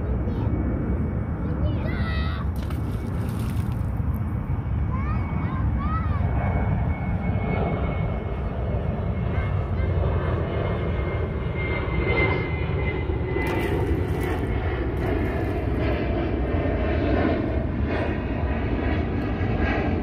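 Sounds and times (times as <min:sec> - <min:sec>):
airplane engine drone: 0:00.0 - 0:20.0.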